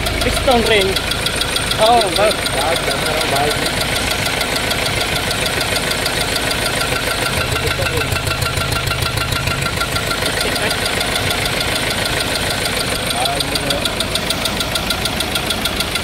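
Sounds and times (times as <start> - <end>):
deeper drone: 0.0 - 15.4
diesel engine idling with knock: 0.0 - 16.0.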